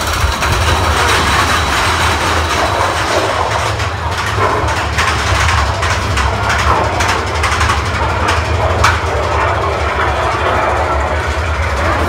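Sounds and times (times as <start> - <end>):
low hum: 0.0 - 12.0
roller coaster wheels clattering on rails: 0.0 - 12.0.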